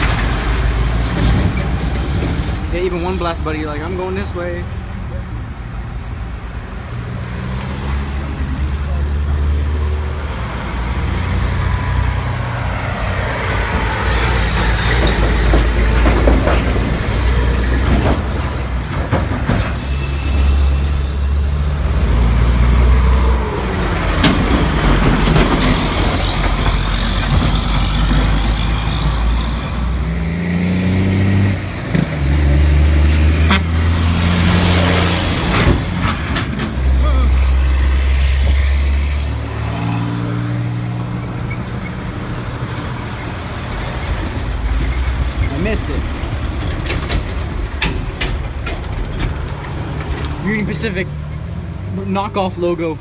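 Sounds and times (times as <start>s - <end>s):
diesel truck engines rumbling: 0.0s - 53.0s.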